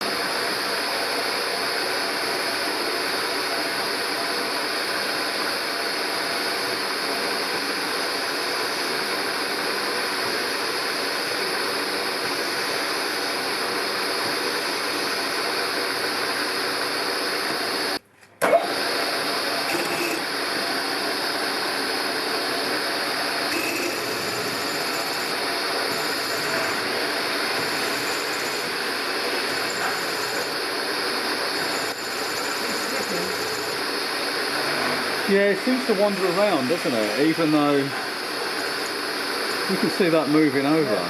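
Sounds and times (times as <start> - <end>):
drill motor drilling: 0.0 - 41.0.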